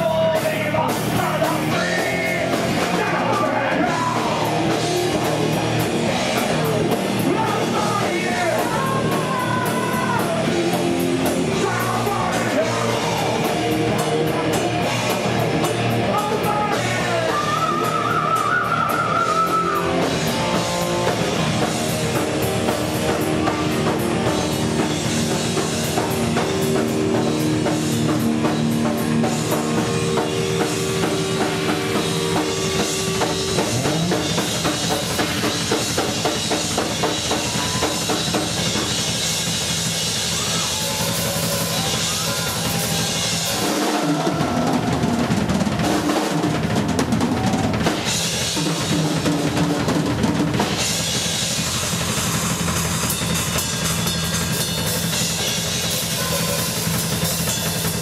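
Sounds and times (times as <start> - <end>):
fast bass drum and cymbals: 0.0 - 58.0
heavy metal band playing live: 0.0 - 58.0.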